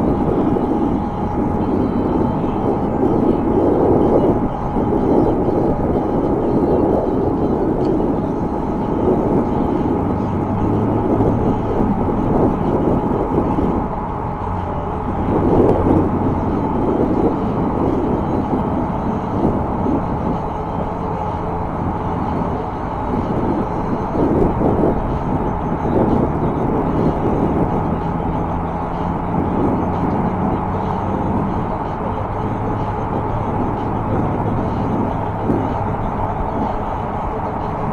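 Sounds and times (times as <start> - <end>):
e-bike riding on pavement: 0.0 - 37.9
road traffic: 0.0 - 37.9.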